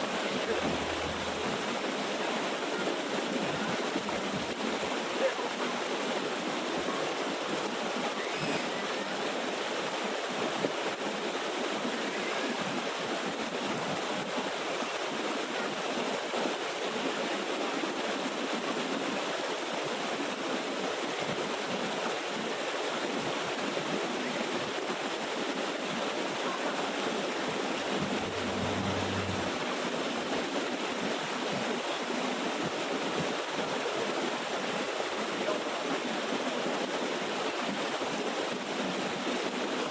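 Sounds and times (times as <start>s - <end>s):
water rushing down waterfall: 0.0s - 39.9s.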